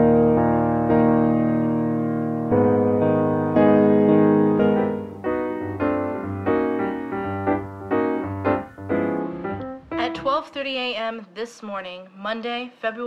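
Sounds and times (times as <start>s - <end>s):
slow piano music: 0.0s - 10.6s.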